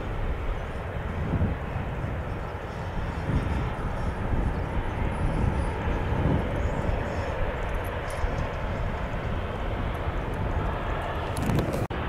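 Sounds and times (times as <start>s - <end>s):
distant jet airliner rumble: 0.0s - 12.0s
wind buffeting microphone: 0.0s - 12.0s.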